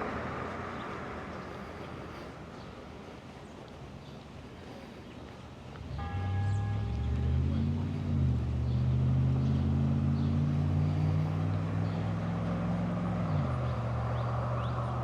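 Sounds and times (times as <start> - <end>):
engine humming: 0.0 - 3.7, 5.6 - 15.0.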